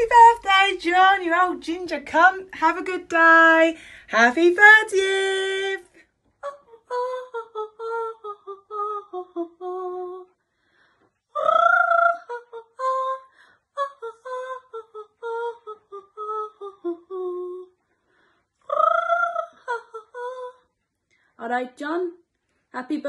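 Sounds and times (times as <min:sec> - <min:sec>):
woman singing unaccompanied: 0:00.0 - 0:10.4, 0:11.3 - 0:17.8, 0:18.6 - 0:20.8.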